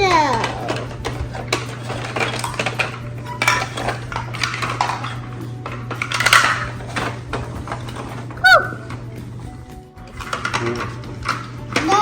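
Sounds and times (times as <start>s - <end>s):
plastic toy pieces clicking: 0.0s - 9.1s, 10.1s - 12.0s.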